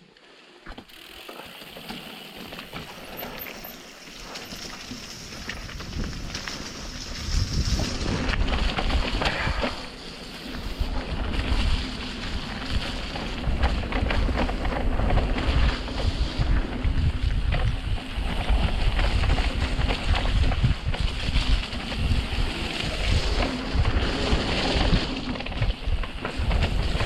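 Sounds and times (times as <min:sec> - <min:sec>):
bike knocking and rattling: 0:00.6 - 0:27.0
wind buffeting microphone: 0:04.7 - 0:27.0.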